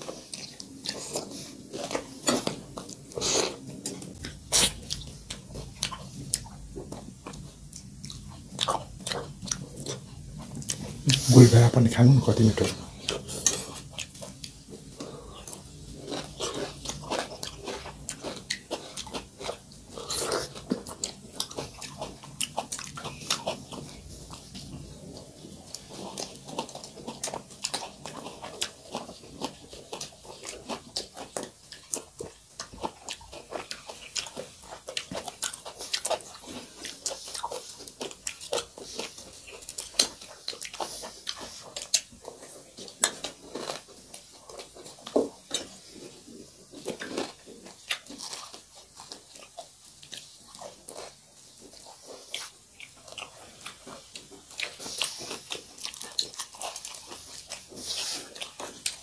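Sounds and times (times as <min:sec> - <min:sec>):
chewing crunchy food: 0:00.0 - 0:59.0.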